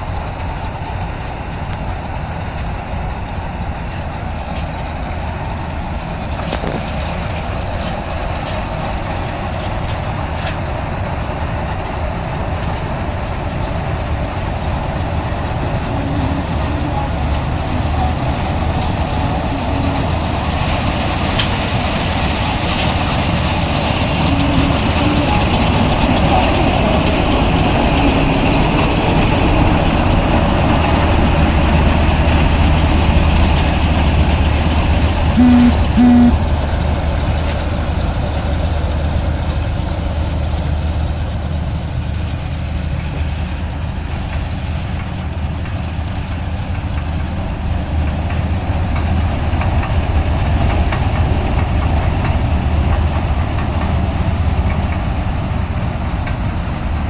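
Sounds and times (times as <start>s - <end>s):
heavy machinery engine humming: 0.0s - 57.0s.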